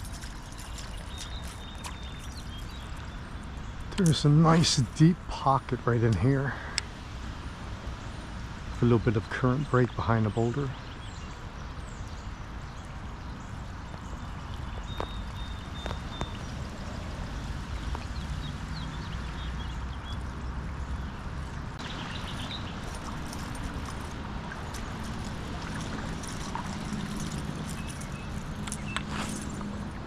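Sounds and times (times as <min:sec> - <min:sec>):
creek water running over rocks: 0:00.0 - 0:30.0.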